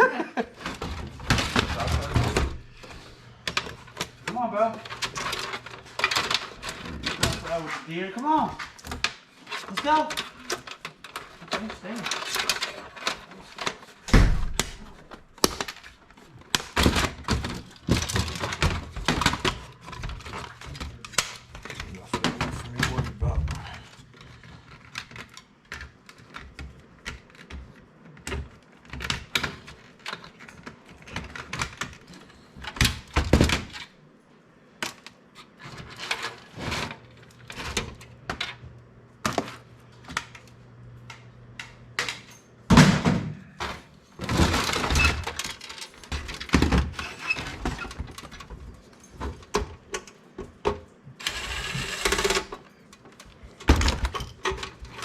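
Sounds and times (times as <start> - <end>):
computer parts clattering: 0.5 - 8.0, 8.8 - 33.9, 41.1 - 55.0.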